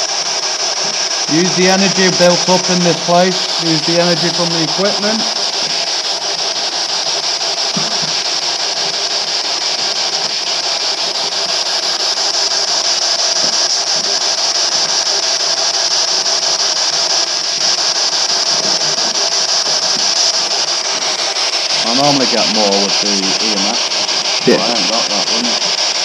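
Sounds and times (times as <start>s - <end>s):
radio static hiss: 0.8s - 26.0s.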